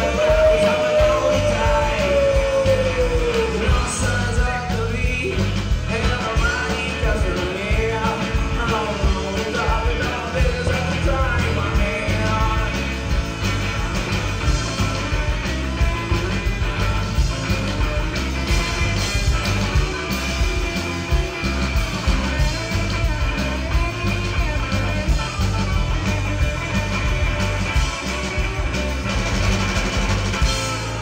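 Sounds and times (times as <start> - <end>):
rock band playing live: 0.0 - 31.0
steady drum hits: 0.0 - 31.0.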